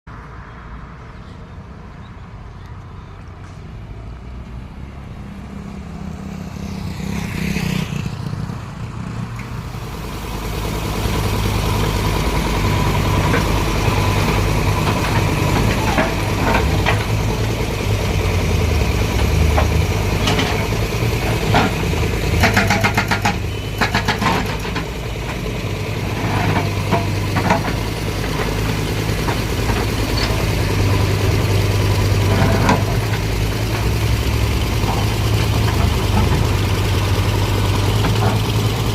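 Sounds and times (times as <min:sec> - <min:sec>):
vehicle engine running: 0:05.2 - 0:38.9.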